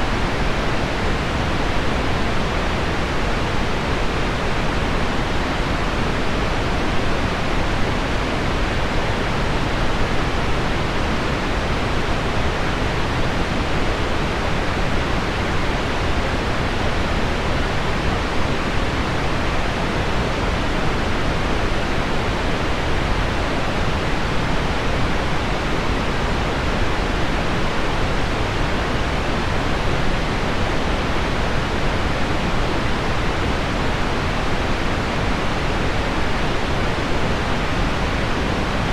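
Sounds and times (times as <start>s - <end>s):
pink noise: 0.0s - 38.9s.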